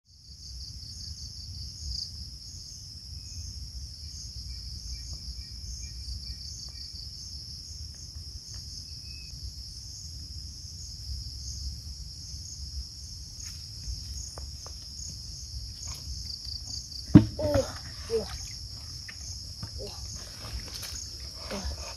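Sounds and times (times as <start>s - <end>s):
insects chirring: 0.1s - 21.9s.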